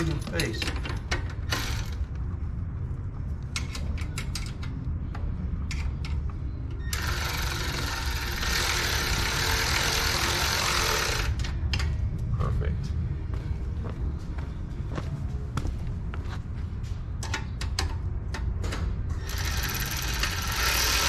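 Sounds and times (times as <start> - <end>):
steady low rumble: 0.0 - 19.5.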